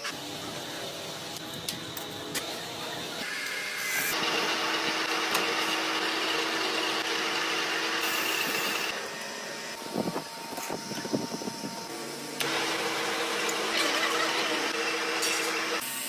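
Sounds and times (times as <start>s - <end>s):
metalworking machine whining: 0.0s - 16.0s.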